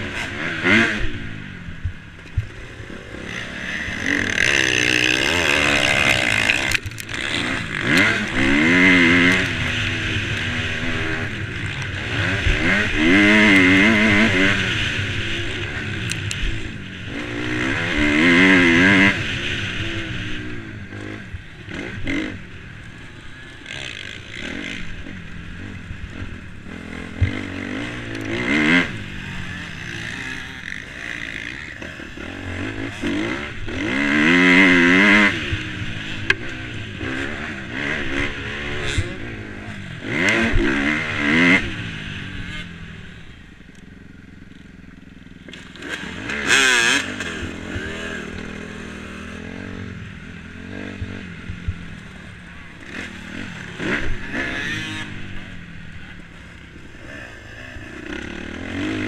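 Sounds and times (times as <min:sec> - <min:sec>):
motocross engine revving: 0:00.0 - 0:43.8, 0:45.4 - 0:59.0.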